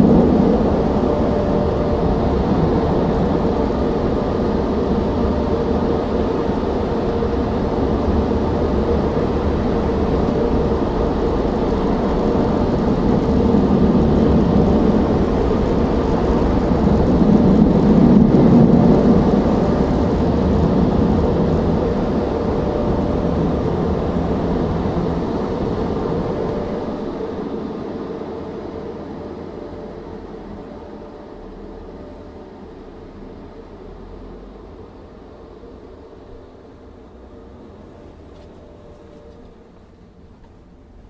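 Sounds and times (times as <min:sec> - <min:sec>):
car wash machinery drone: 0:00.0 - 0:41.0
constant hum: 0:00.0 - 0:41.0.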